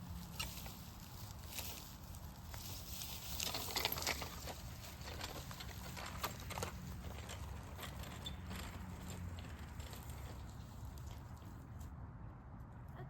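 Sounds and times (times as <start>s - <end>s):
bicycle rumbling over grass: 0.0s - 11.6s
bicycle clicks and rattles: 0.2s - 11.6s.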